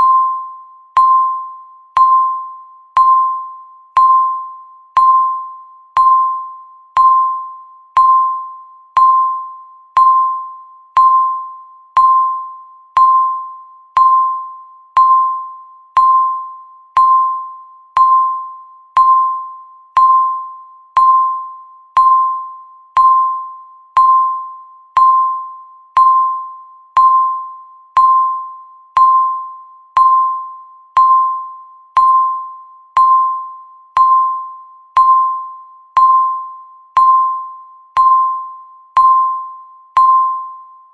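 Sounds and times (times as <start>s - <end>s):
countdown timer beep: 0.0s - 40.9s.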